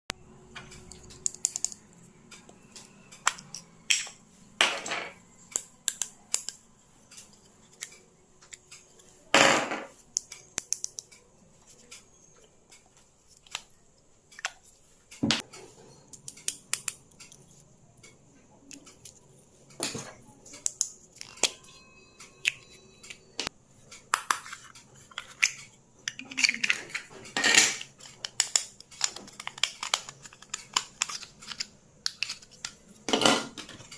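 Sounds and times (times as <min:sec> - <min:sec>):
small objects clicking and tapping: 0:00.5 - 0:09.0, 0:09.8 - 0:33.9.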